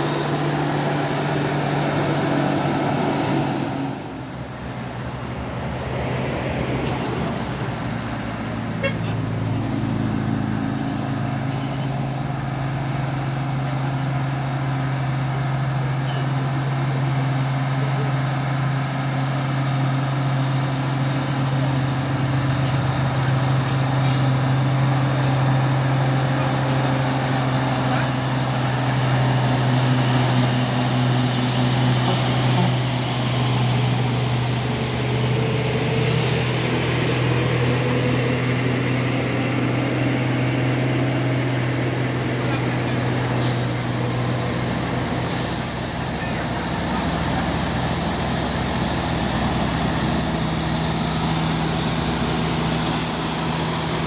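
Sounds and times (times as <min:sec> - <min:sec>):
truck diesel engine drone: 0:00.0 - 0:54.0.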